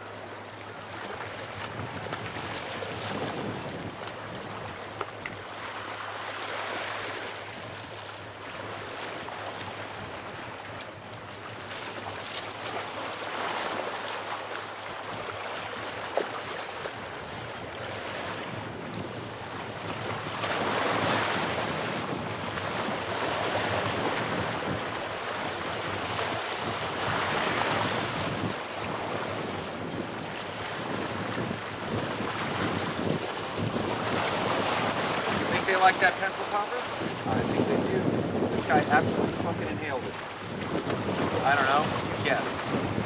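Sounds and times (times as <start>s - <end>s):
waves washing over rocks: 0.8s - 7.5s, 8.4s - 43.0s
wind buffeting microphone: 0.9s - 12.7s, 15.0s - 43.0s.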